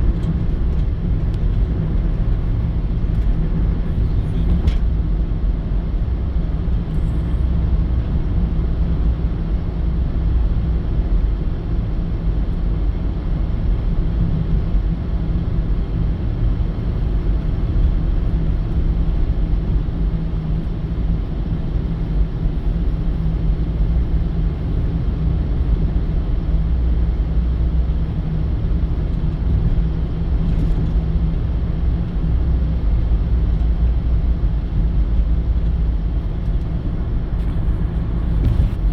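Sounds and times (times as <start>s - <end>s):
vehicle running low rumble: 0.0s - 38.9s.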